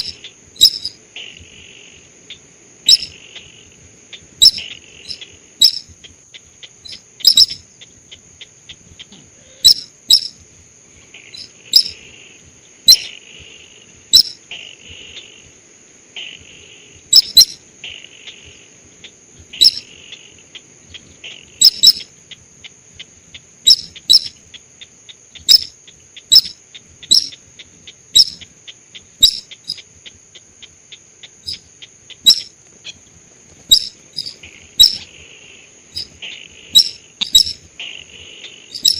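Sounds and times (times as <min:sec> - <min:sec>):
high insect trill: 0:00.0 - 0:38.9
sharp bird calls: 0:00.0 - 0:38.9.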